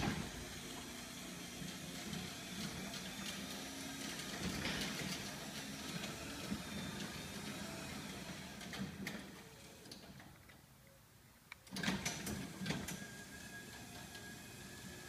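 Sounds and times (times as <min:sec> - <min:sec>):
garage door opener motor humming: 0:00.0 - 0:10.2, 0:11.7 - 0:15.0.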